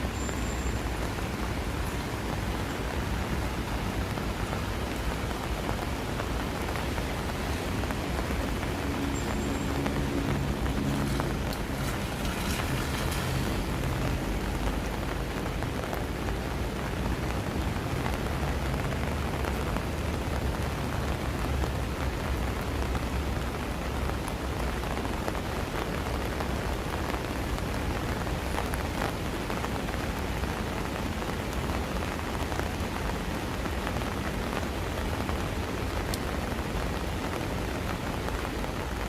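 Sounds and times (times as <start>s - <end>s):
rain falling: 0.0s - 39.0s
raindrop ticks: 0.0s - 39.0s.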